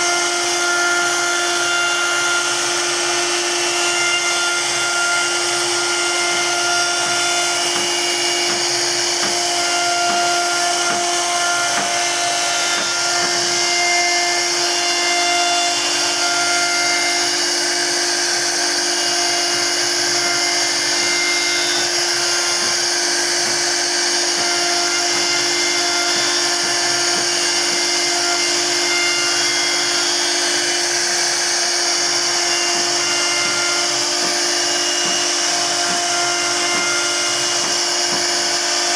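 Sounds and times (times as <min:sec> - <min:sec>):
router bit cutting wood hiss: 0:00.0 - 0:38.9
router spindle whine: 0:00.0 - 0:38.9.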